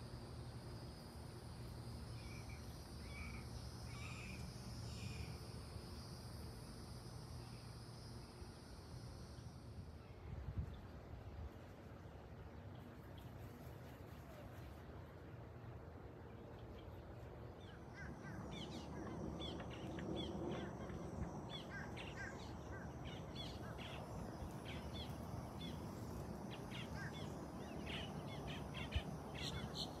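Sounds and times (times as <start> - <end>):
steady low background noise: 0.0 - 30.0.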